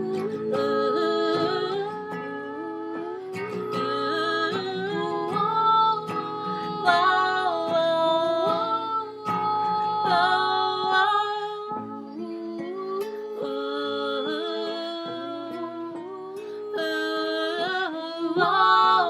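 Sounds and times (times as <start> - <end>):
acoustic guitar playing: 0.0 - 19.0
woman singing wordless melody: 0.0 - 19.0.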